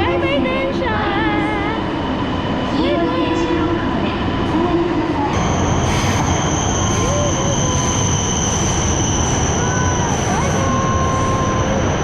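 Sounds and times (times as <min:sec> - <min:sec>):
steady high-pitched whine: 0:00.0 - 0:12.0
train rumbling past: 0:00.0 - 0:12.0.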